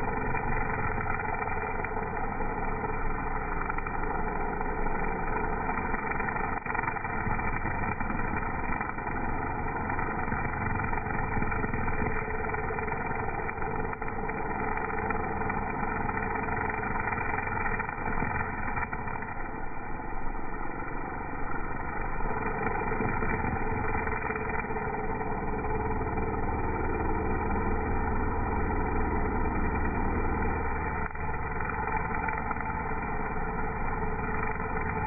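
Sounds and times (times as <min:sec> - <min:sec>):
string trimmer engine running: 0:00.0 - 0:35.0.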